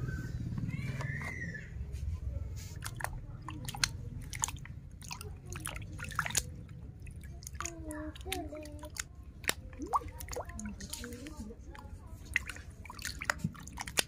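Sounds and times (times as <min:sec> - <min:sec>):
hand scrubbing plastic toy: 0:00.6 - 0:14.0
water sloshing in a bucket: 0:00.6 - 0:14.0.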